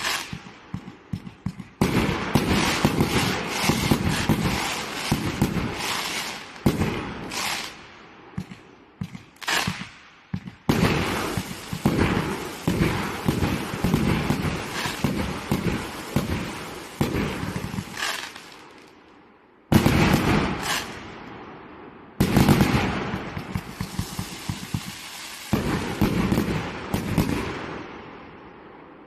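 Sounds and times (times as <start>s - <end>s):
firework pops and crackling: 0.0s - 19.0s, 19.7s - 21.1s, 22.2s - 27.8s.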